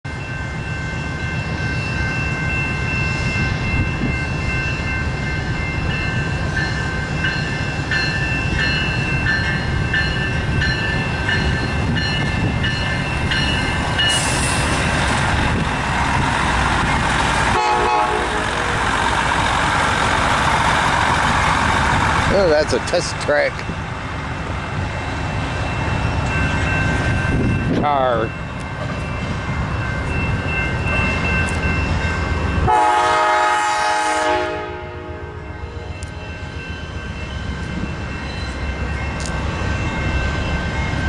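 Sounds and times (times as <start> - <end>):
grade-crossing bell ringing: 0.0 - 41.0
diesel railcar rumbling past: 0.1 - 41.0.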